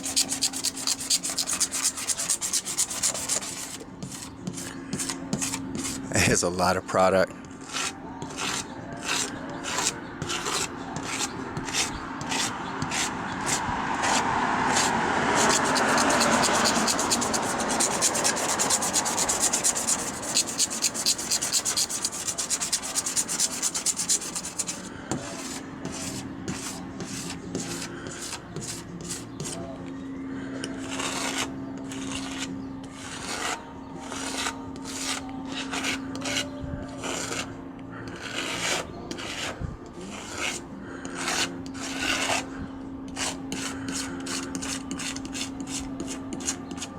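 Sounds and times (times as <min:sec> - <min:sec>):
blade scraping painted surface: 0:00.0 - 0:29.8, 0:30.4 - 0:46.9.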